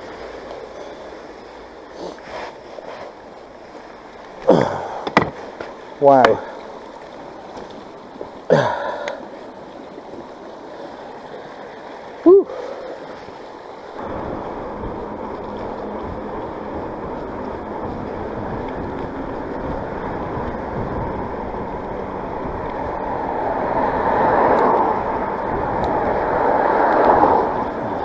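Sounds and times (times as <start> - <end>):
bike tyres splashing through water: 0.0 - 28.0.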